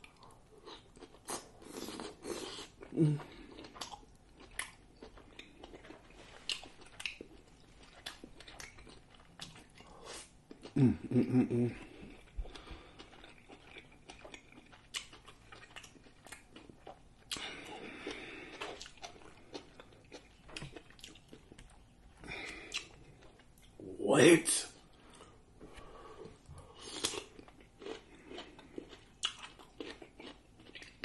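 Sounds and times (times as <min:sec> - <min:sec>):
wet chewing and lip-smacking: 0:00.0 - 0:10.8, 0:11.8 - 0:23.8, 0:26.3 - 0:31.0.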